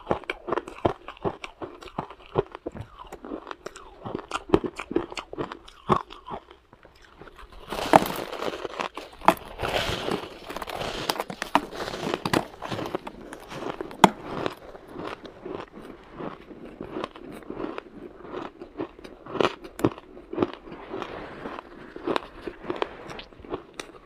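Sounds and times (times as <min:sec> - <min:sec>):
crunching shaved ice: 0:00.0 - 0:24.0.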